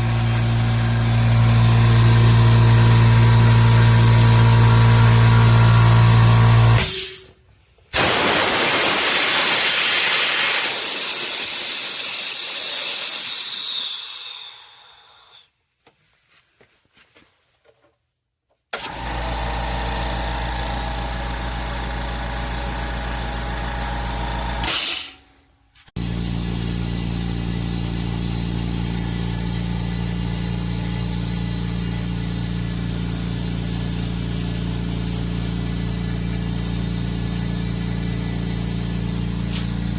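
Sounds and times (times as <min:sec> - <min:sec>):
air compressor motor running: 0:00.0 - 0:07.3, 0:07.9 - 0:15.4, 0:18.8 - 0:25.2, 0:26.0 - 0:39.9.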